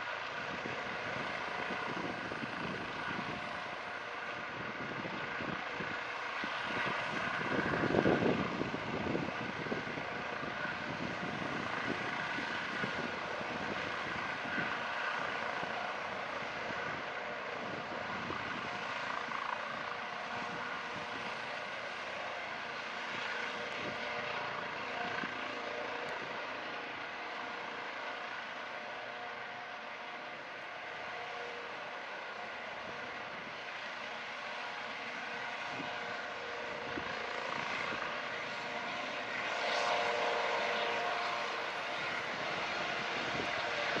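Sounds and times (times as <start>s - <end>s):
helicopter rotor noise: 0.0s - 44.0s
helicopter turbine whine: 0.0s - 44.0s.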